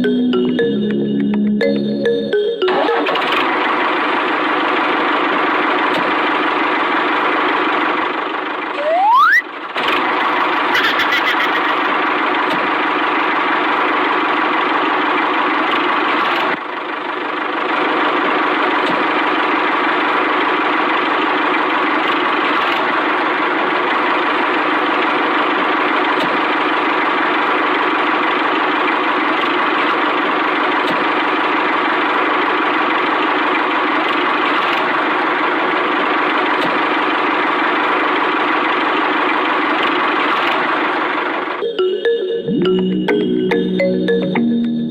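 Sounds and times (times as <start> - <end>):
mini tractor engine running: 2.4 - 41.6.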